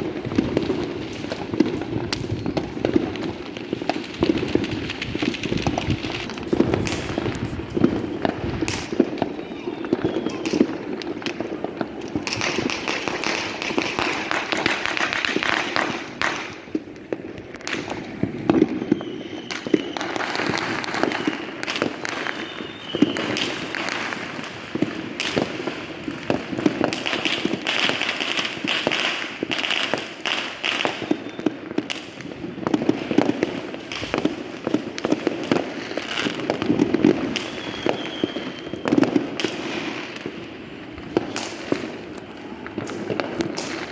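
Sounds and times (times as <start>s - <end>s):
firework crackling: 0.0s - 43.9s
firework whistling: 0.0s - 43.9s
fireworks bangs and pops: 0.0s - 43.9s.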